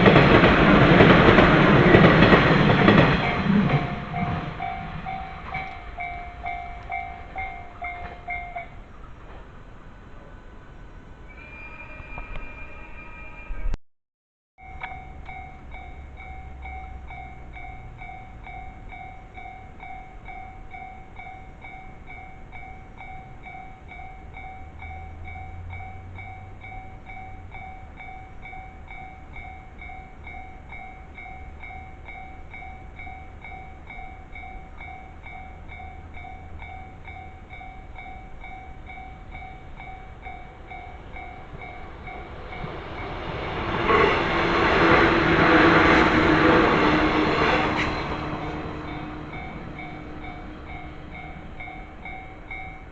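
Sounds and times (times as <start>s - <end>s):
level crossing warning bell ringing: 0.0s - 8.9s, 14.6s - 52.9s
train running noise: 0.0s - 13.8s, 14.6s - 52.9s.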